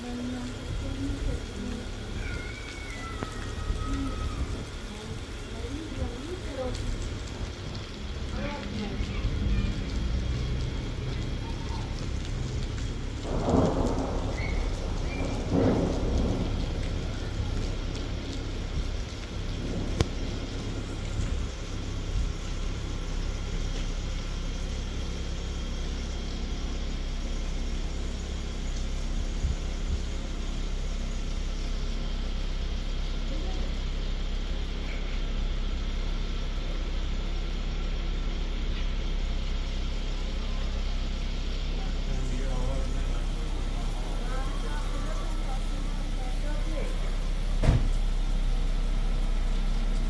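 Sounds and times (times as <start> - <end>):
low rumble: 0.0 - 50.0
rain hiss: 0.0 - 50.0.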